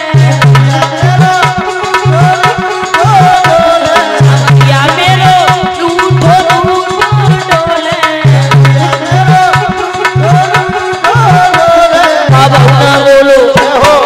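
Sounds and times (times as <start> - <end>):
wavering melody: 0.7 - 13.2.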